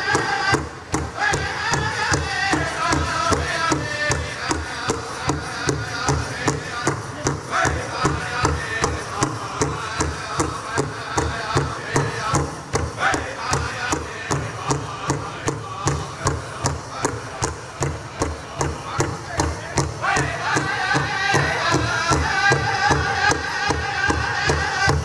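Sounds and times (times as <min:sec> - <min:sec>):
big drum beating: 0:00.0 - 0:25.0
high-pitched singing voices: 0:00.0 - 0:25.0.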